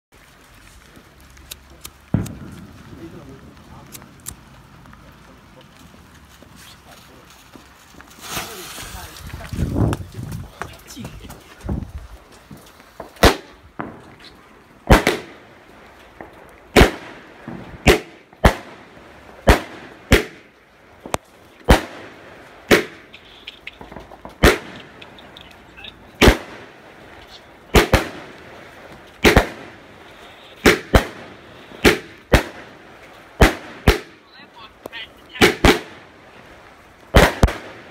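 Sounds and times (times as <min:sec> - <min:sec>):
firework bangs: 0:00.9 - 0:37.9.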